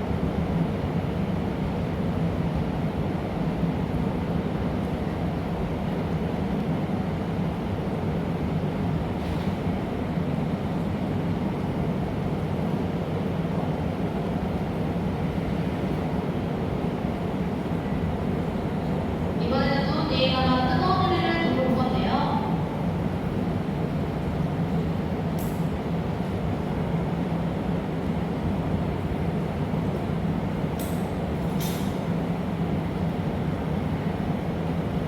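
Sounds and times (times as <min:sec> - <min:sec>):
furnace and ventilation roar: 0:00.0 - 0:35.0.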